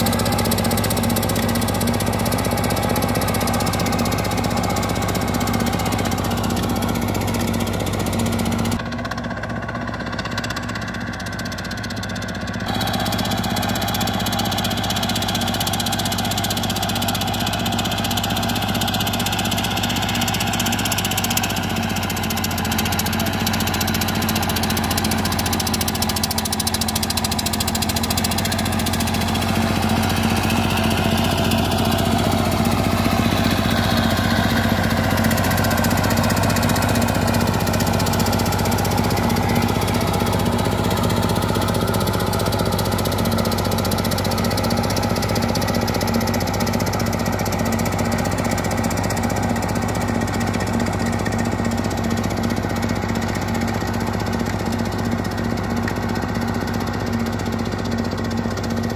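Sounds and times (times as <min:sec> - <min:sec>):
walking tractor diesel engine running: 0:00.0 - 0:58.9.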